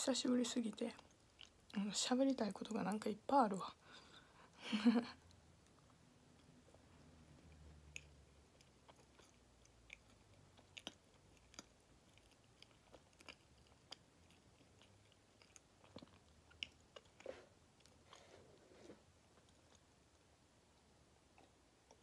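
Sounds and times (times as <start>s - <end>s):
faint chewing: 0.7s - 1.8s, 5.2s - 22.0s.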